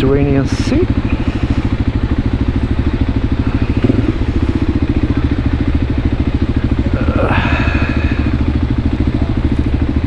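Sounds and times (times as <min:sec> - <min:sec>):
single-cylinder engine running: 0:00.0 - 0:10.0.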